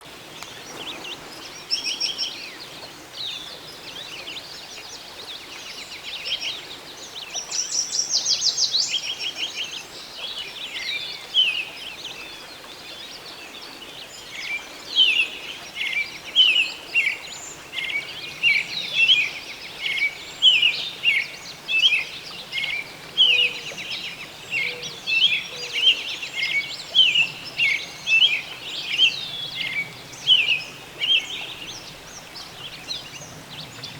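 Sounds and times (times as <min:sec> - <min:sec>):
faint stream rushing: 0:00.0 - 0:33.9
songbirds chirping and singing: 0:05.6 - 0:33.9.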